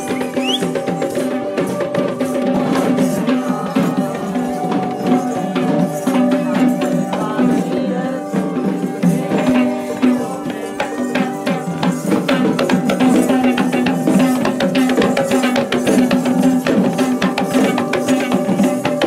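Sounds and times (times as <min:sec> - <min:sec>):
held pitched tone: 0:00.0 - 0:15.3
drums beaten in rapid patterns: 0:00.0 - 0:19.0
metal ornaments jingling: 0:00.0 - 0:19.0.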